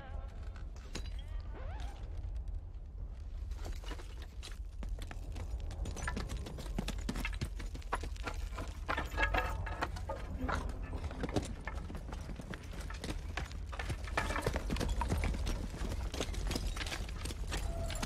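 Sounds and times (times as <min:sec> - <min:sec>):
boots running over rubble: 0:03.2 - 0:18.0.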